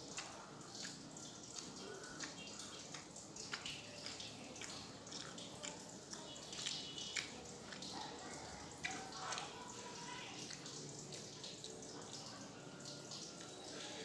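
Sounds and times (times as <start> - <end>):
person chewing food: 0.0 - 11.8.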